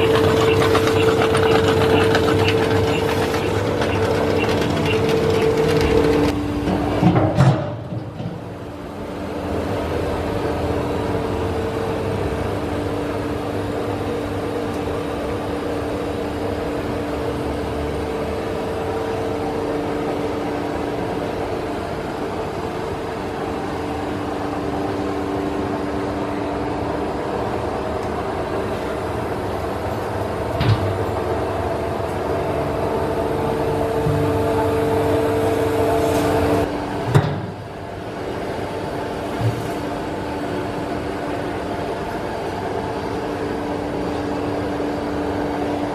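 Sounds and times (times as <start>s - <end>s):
machine hum with constant tones: 0.0s - 45.9s.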